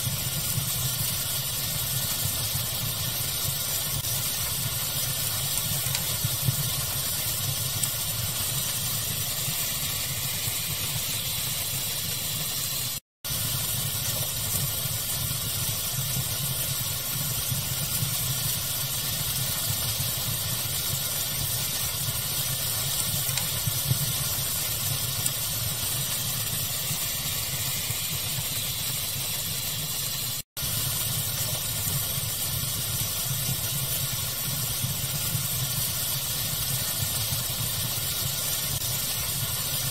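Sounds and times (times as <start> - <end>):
steady hiss: 0.0 - 39.9
wood fire crackling and popping: 0.0 - 39.9.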